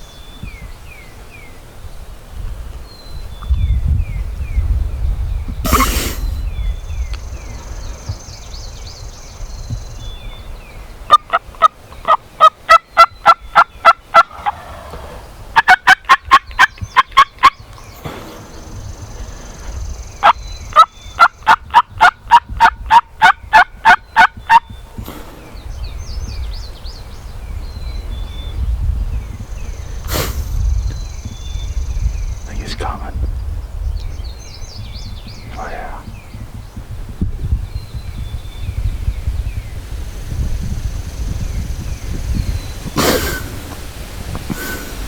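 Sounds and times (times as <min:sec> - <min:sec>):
wind rumbling on microphone: 0:00.0 - 0:45.0.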